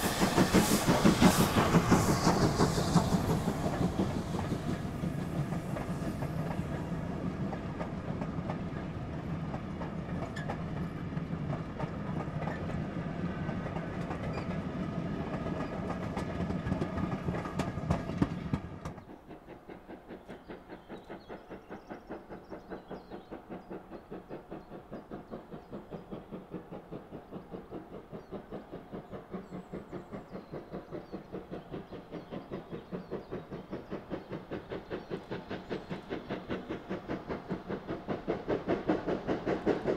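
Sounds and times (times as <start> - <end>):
rhythmic train wheel beats: 0.0 - 39.9
steam train passing: 0.0 - 39.9.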